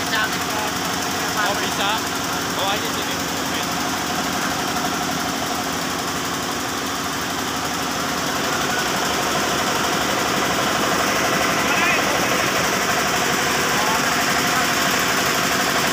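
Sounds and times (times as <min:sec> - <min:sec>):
air compressor pump: 0:00.0 - 0:15.9
diesel engine running: 0:00.0 - 0:15.9.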